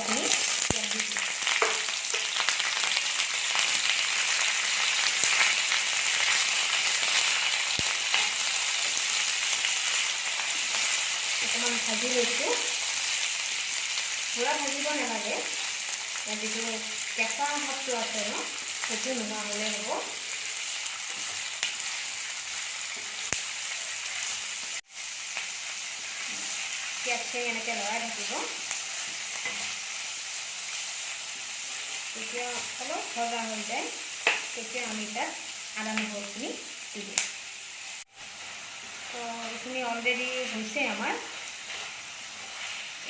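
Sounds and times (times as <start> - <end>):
onions sizzling in hot oil: 0.0 - 43.0.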